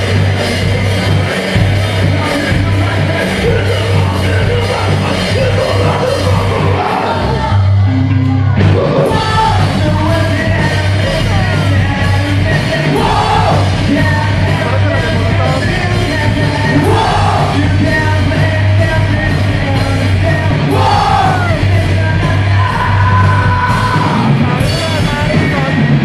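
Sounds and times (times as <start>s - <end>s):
distorted electric guitar: 0.0s - 26.0s
drum kit: 0.0s - 26.0s
electric bass: 0.0s - 26.0s
shouted lead vocal: 1.1s - 26.0s.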